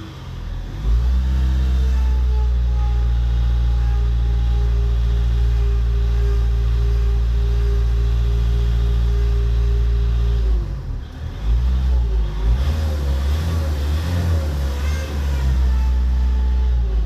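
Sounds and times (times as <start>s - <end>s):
diesel engine running: 0.0s - 17.0s
power steering whine: 0.0s - 17.0s.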